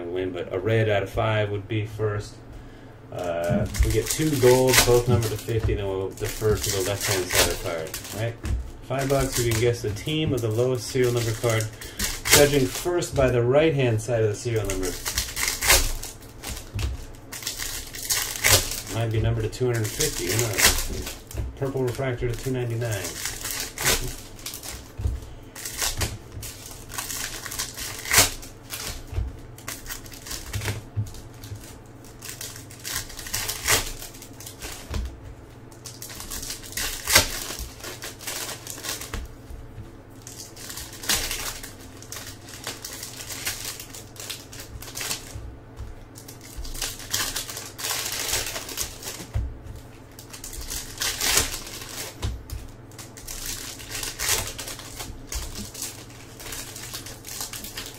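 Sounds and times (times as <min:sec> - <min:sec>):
foil wrappers crinkling and tearing: 0:02.7 - 0:57.9
plastic wrap and cards rustling: 0:02.7 - 0:57.9.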